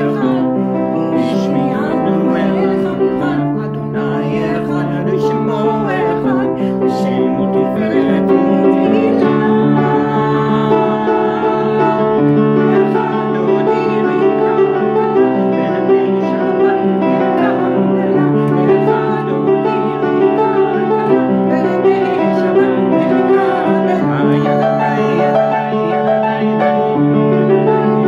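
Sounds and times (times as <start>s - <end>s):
upright piano chords: 0.0s - 28.0s
woman and man singing a hymn: 0.0s - 28.0s.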